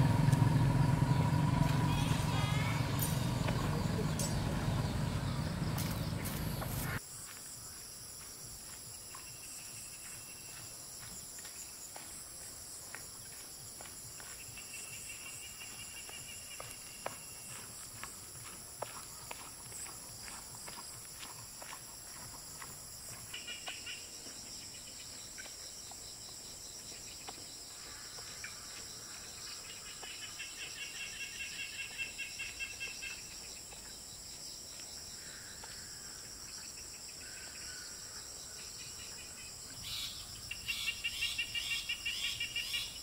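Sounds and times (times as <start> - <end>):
insects trilling: 0.0 - 43.0
rapid pulsed insect chirping: 0.0 - 43.0.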